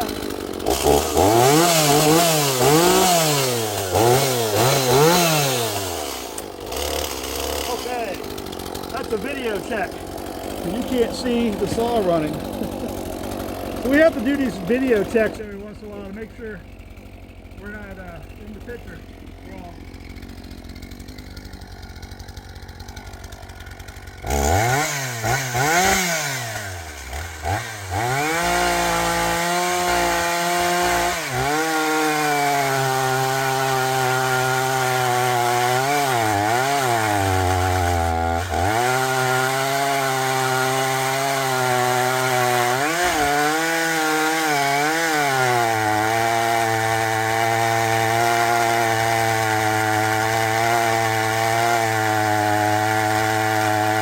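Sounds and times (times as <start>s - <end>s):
chainsaw cutting through log: 0.0s - 54.0s
chainsaw revving: 0.0s - 54.0s.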